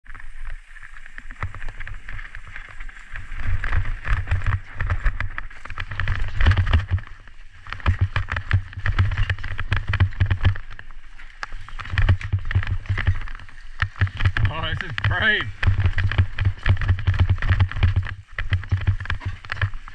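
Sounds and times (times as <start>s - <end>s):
bike rattling and clattering: 0.0s - 19.9s
bike tyres rumbling over dirt: 0.0s - 19.9s
wind buffeting microphone: 0.6s - 19.9s.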